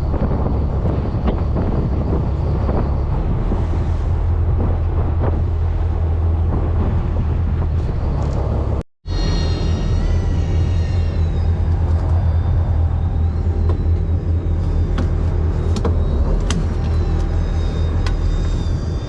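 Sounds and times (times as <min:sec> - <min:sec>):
boat engine droning: 0:00.0 - 0:19.0
wind noise on microphone: 0:00.0 - 0:19.0.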